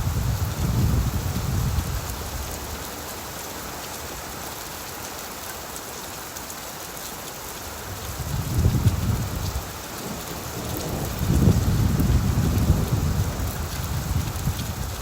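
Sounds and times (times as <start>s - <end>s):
rain falling on leaves: 0.0s - 15.0s.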